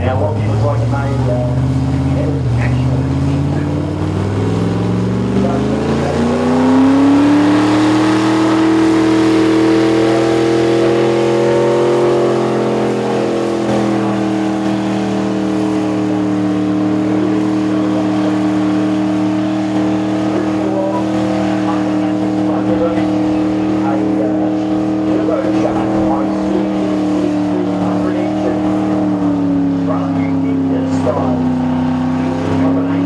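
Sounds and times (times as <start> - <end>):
car engine revving hard: 0.0 - 33.0.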